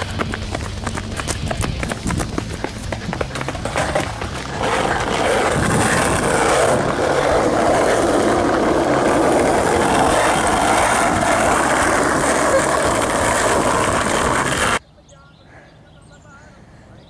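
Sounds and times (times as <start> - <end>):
air buffeting microphone: 0.0 - 14.8
car wind and road noise: 0.0 - 14.8.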